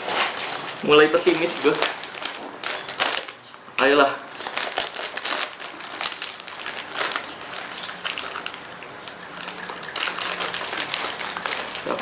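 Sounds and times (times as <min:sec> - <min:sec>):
plastic snack packet crinkling: 0:00.8 - 0:03.4, 0:04.3 - 0:12.0.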